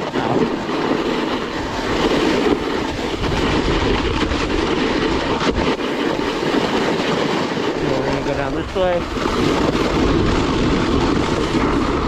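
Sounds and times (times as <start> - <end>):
snowboard scraping over snow: 0.0 - 12.0.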